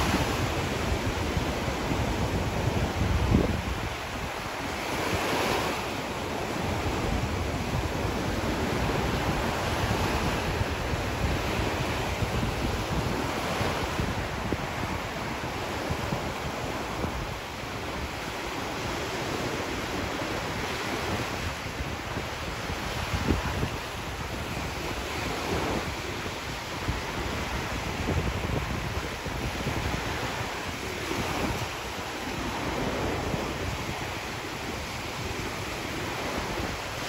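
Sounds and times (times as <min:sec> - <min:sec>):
small waves breaking on shore: 0:00.0 - 0:37.0
wind rumbling on microphone: 0:00.0 - 0:37.0.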